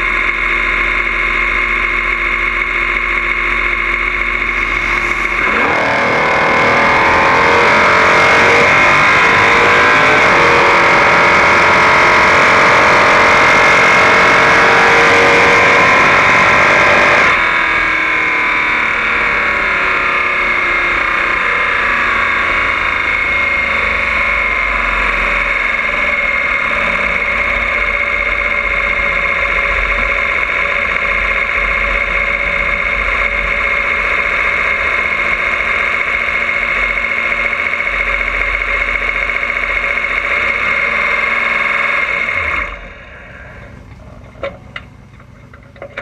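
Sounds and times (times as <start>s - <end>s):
constant high whine: 0.0s - 46.0s
drag racing engine running: 0.0s - 46.0s
engine winding down: 0.0s - 46.0s.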